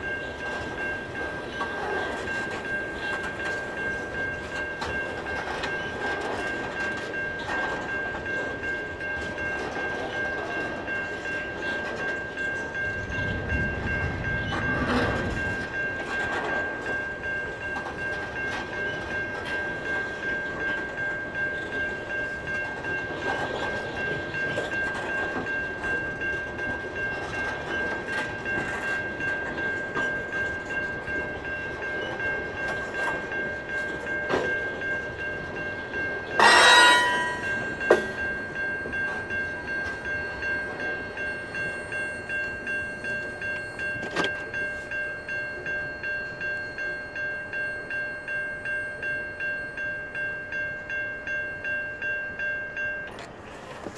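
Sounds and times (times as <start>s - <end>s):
crossing signal bell ringing: 0.0s - 53.9s.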